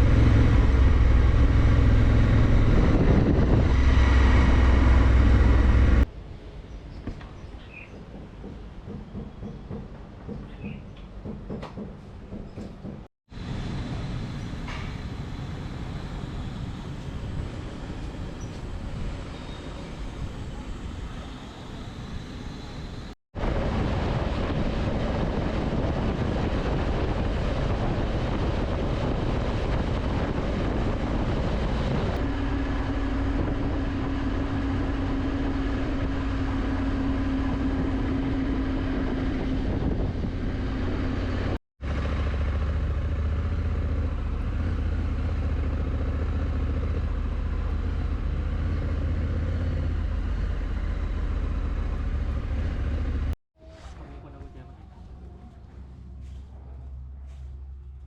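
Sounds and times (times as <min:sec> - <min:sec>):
vehicle and road noise: 0:00.0 - 0:58.0.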